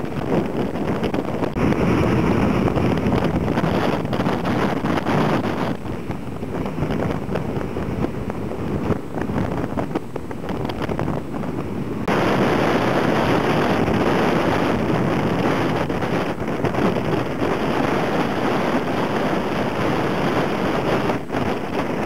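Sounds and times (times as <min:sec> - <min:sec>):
heavy surf breaking: 0:00.0 - 0:22.0
wind buffeting microphone: 0:00.0 - 0:22.0.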